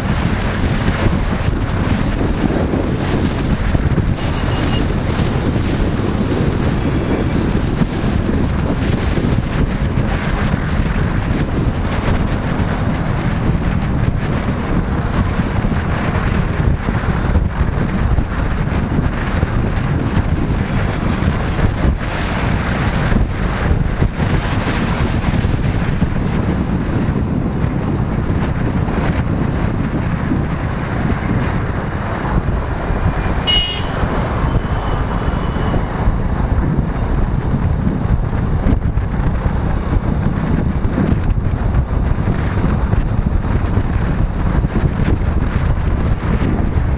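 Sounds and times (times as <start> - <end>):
motorcycle running: 0.0 - 46.9
wind buffeting microphone: 0.0 - 46.9.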